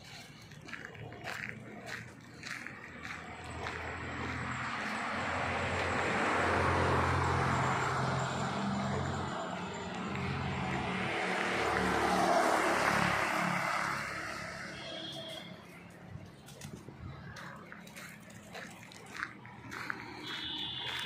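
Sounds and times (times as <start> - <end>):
passing road traffic: 0.0 - 21.0.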